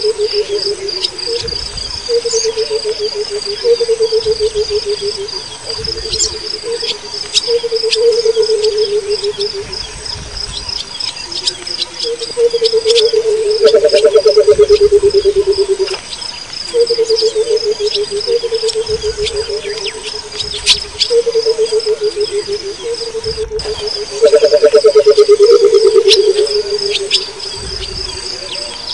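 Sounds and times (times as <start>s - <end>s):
bird giving bubbling hoots: 0.0s - 16.0s, 16.6s - 28.9s
insects chirring: 0.0s - 28.9s.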